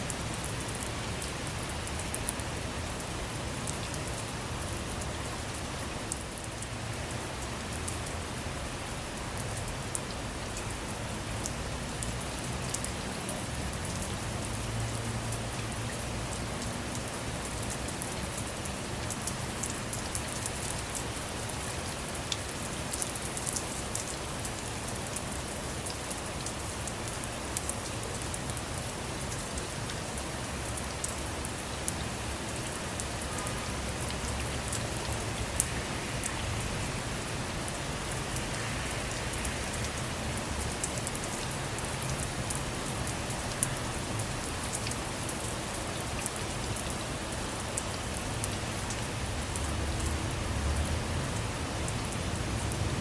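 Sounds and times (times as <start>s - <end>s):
rain falling on a car: 0.0s - 53.0s.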